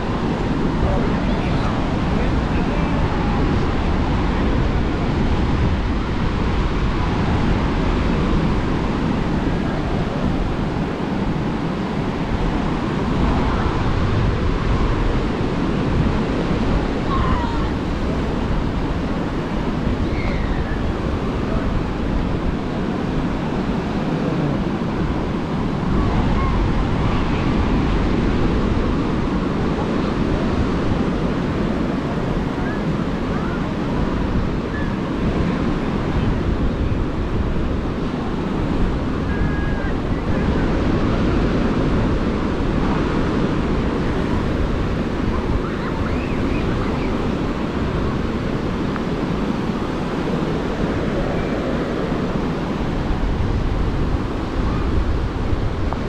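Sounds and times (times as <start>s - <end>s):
faint voices: 0.0s - 56.0s
waves breaking on beach: 0.0s - 56.0s.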